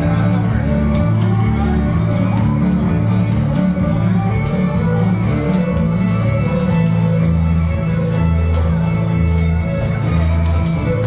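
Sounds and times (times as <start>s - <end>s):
fiddle and guitar music: 0.0s - 11.0s.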